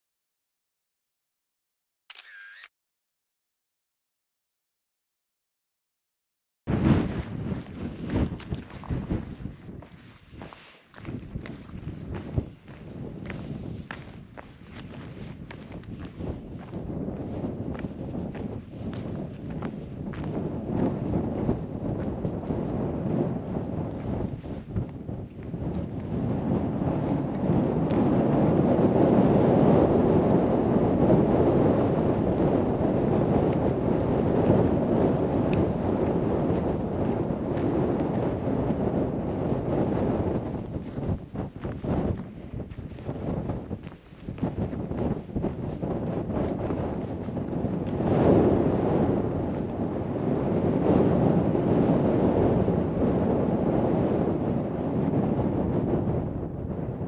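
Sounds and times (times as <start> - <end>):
wind buffeting microphone: 6.7 - 57.0.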